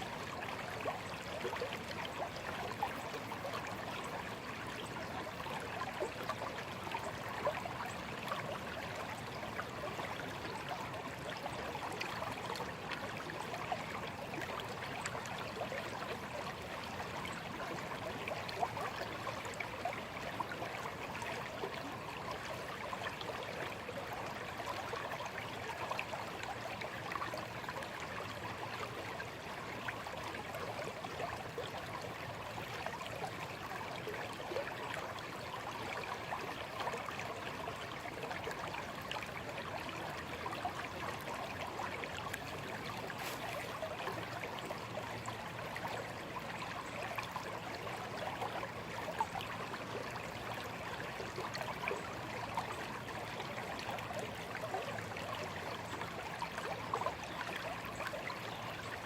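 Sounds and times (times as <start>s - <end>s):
shallow stream babbling: 0.0s - 59.0s.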